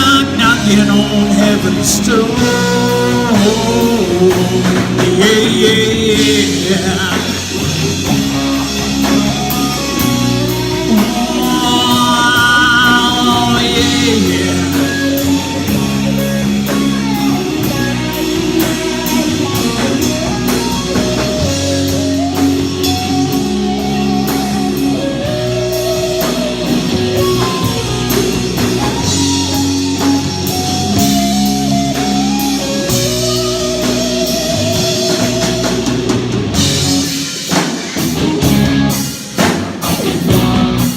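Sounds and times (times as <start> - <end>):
bass line: 0.0 - 40.9
drum kit with cymbal hits: 0.0 - 40.9
electric guitar lead melody: 0.0 - 40.9.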